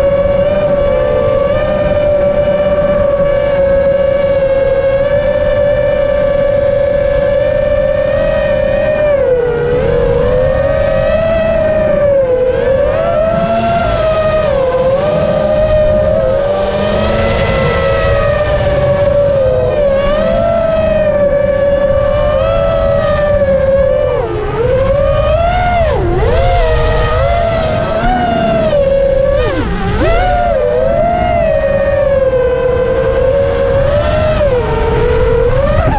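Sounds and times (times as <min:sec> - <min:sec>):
drone motors and propellers whining: 0:00.0 - 0:35.9
wind rushing over microphone: 0:00.0 - 0:35.9.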